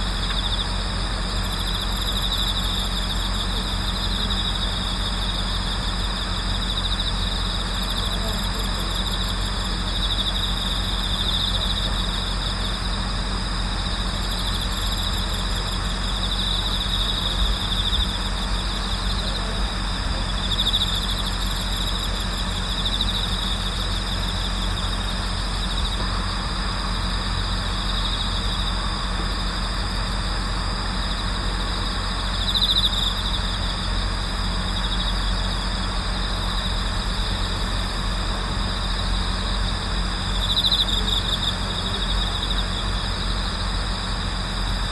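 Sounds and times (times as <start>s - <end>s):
crickets chirring: 0.0s - 44.9s
steady low hum: 0.0s - 44.9s.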